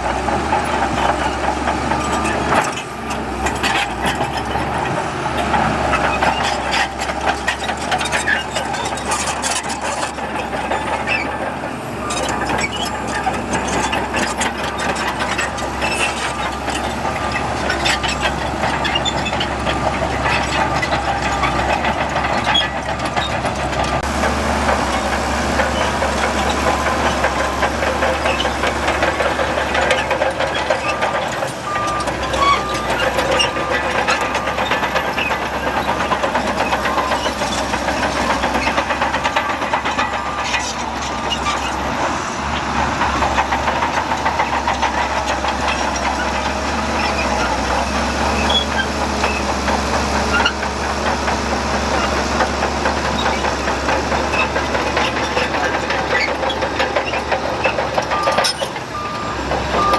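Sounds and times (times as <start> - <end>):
heavy diesel machinery running: 0.0 - 59.9
metallic clanks and rattles: 0.3 - 59.9.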